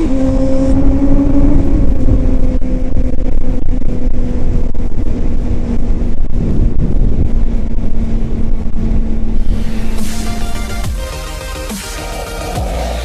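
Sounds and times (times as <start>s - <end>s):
wind buffeting microphone: 0.0s - 10.8s
motorcycle engine cruising: 0.0s - 13.0s.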